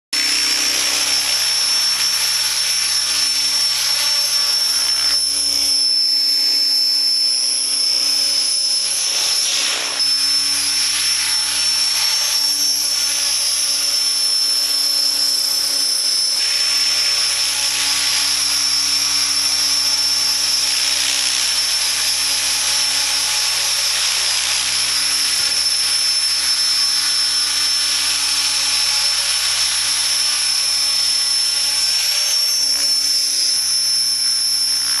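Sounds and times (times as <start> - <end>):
rc helicopter whine: 0.2 - 35.0.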